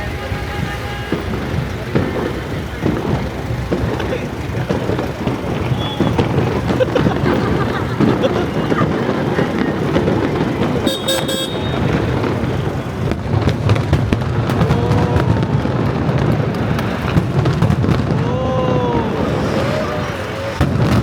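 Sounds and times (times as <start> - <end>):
fireworks bangs: 0.0 - 21.0
fireworks rumble: 0.0 - 21.0
fireworks whistling: 0.0 - 21.0.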